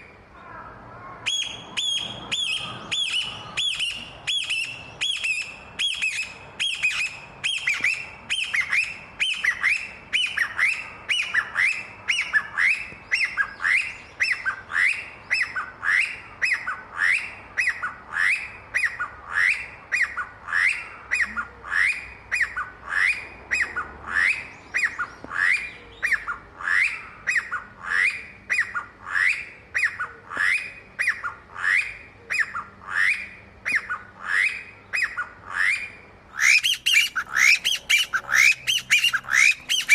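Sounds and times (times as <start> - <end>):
partridge calling: 1.3 - 39.9.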